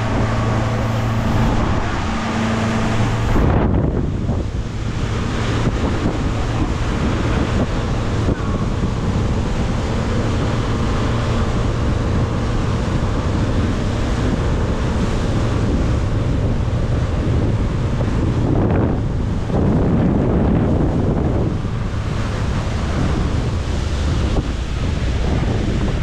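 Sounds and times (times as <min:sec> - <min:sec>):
motorboat engine droning: 0:00.0 - 0:26.0
rushing water: 0:00.0 - 0:26.0
wind buffeting microphone: 0:00.0 - 0:26.0.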